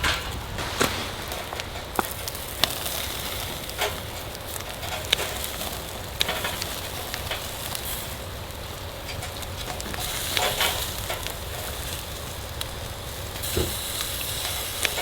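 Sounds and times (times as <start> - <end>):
firewood crackling: 0.0 - 15.0
steady fire hiss: 0.0 - 15.0.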